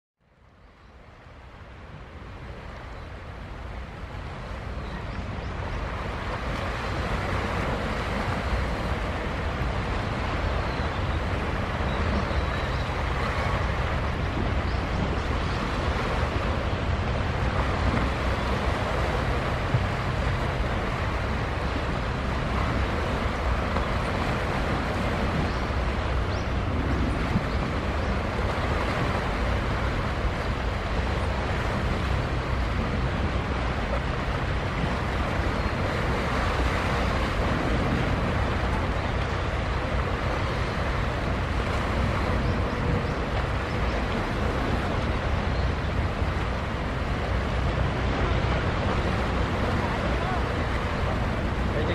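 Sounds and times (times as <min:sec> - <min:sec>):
waves: 0:00.2 - 0:51.9
wind: 0:00.2 - 0:51.9.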